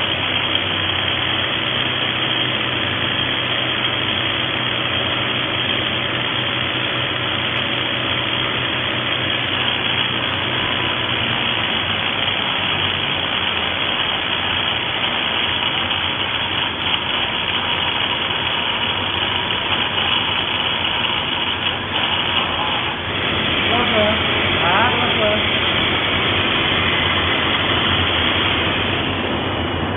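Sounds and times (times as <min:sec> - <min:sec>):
rotary hammer running: 0:00.0 - 0:29.9.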